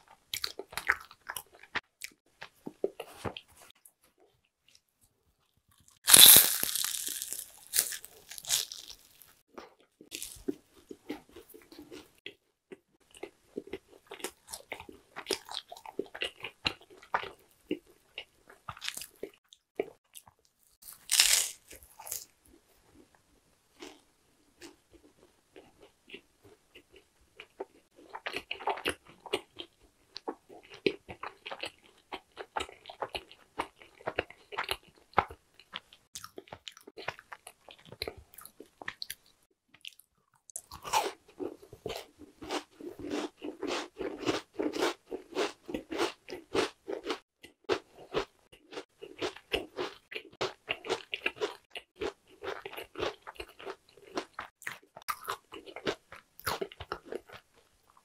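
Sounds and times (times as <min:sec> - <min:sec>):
chewing crunchy snacks: 0:00.0 - 0:04.8, 0:05.7 - 0:58.0.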